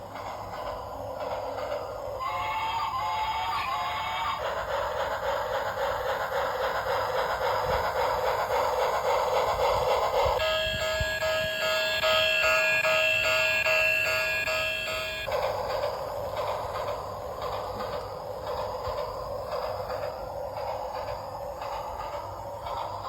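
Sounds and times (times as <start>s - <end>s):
toy train hissing chug: 0.0s - 23.0s.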